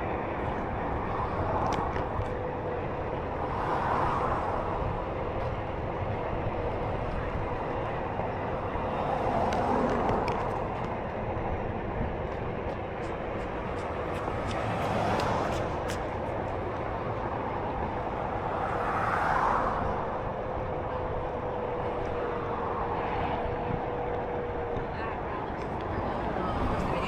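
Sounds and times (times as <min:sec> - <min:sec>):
wheel rolling and wind rumble: 0:00.0 - 0:27.0.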